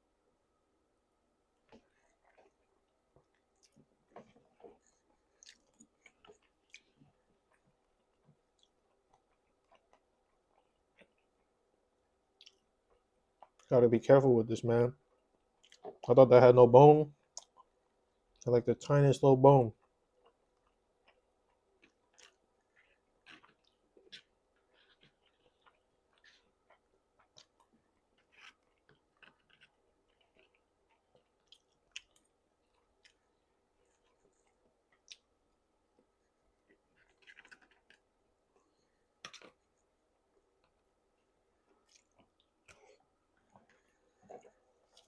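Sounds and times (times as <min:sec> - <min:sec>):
person chewing food: 0:01.6 - 0:11.6, 0:12.3 - 0:13.7, 0:15.2 - 0:16.1, 0:17.2 - 0:18.4, 0:19.8 - 0:45.0.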